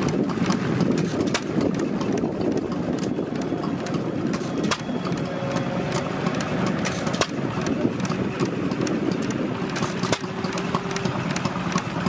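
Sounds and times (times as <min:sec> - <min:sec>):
small engine clattering: 0:00.0 - 0:12.0.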